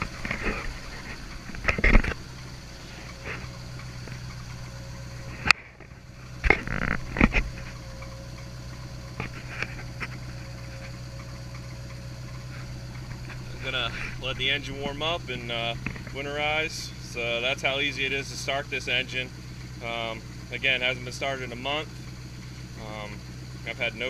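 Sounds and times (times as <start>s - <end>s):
boat engine idling: 0.0s - 24.0s.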